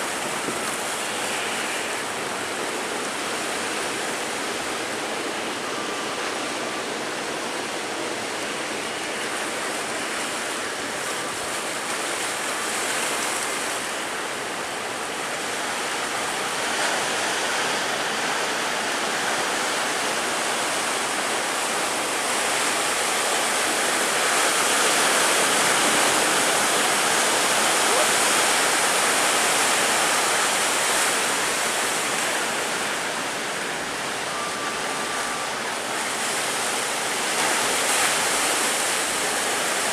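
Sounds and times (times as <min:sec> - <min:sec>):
big surf breaking and rushing: 0:00.0 - 0:39.9.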